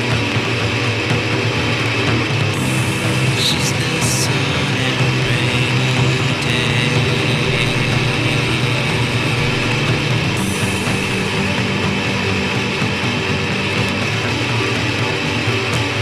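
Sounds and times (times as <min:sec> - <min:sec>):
loud electric guitar: 0:00.0 - 0:16.0
steady low end: 0:02.4 - 0:16.0.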